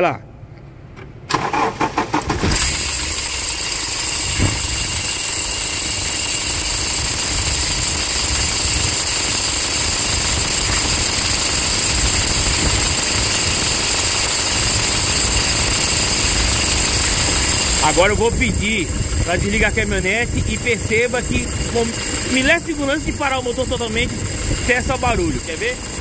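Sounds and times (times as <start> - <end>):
diesel engine idling: 1.4 - 26.0.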